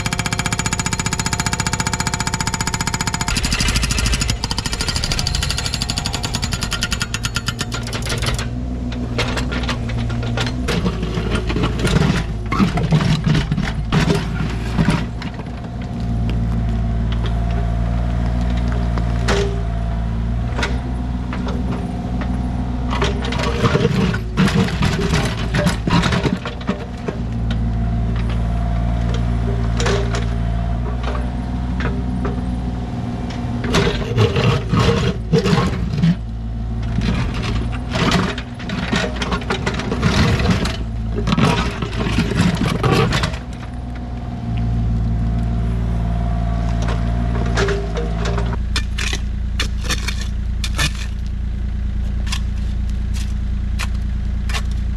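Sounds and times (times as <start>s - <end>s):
digging clanks and knocks: 0.0s - 15.6s, 20.6s - 28.4s, 29.0s - 32.4s, 33.6s - 36.2s, 36.8s - 44.1s, 46.7s - 54.9s
diesel engine under load: 0.0s - 54.9s.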